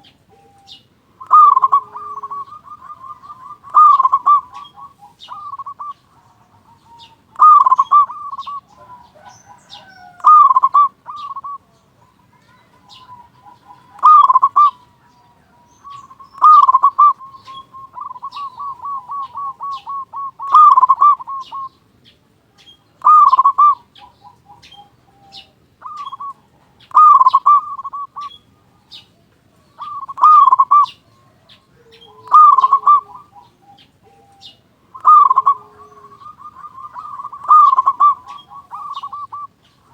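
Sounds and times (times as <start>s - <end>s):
dove cooing: 0.0s - 21.8s, 23.0s - 39.9s.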